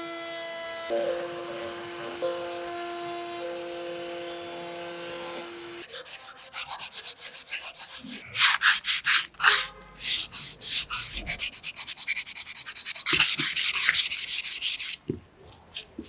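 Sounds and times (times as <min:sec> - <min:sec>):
sandpaper sanding wood: 0:00.6 - 0:15.0.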